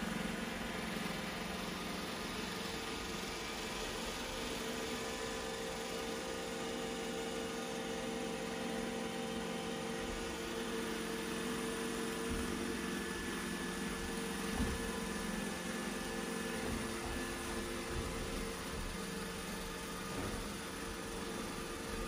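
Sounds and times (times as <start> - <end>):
robot vacuum motor hum: 0.0 - 22.0.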